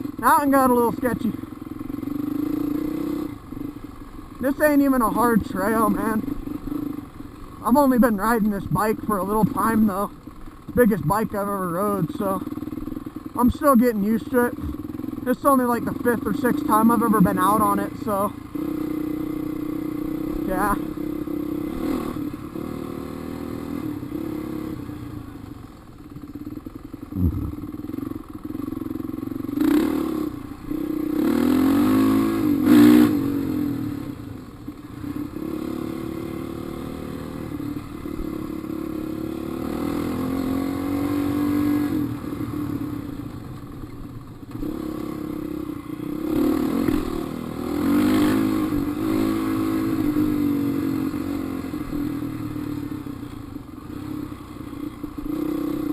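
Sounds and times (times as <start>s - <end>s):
dirt bike engine revving: 0.0s - 25.0s, 27.1s - 43.4s, 44.5s - 53.0s, 53.9s - 55.9s.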